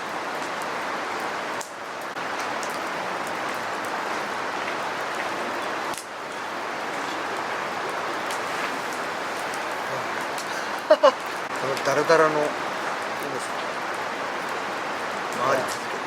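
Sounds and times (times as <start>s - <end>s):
campfire crackling and popping: 1.6s - 16.0s.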